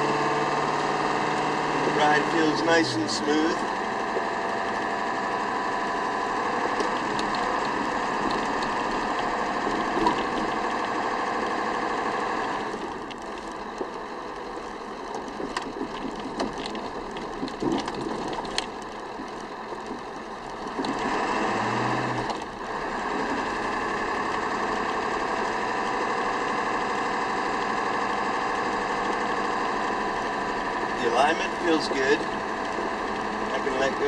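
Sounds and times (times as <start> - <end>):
diesel truck cabin drone: 0.0 - 34.0.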